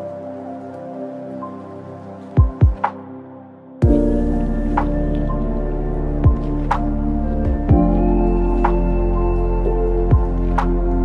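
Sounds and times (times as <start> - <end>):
sustained synth chords: 0.0 - 11.0.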